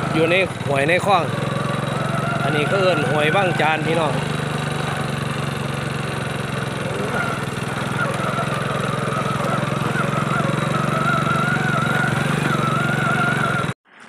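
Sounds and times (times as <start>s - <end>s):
small motorcycle engine running: 0.0s - 13.8s.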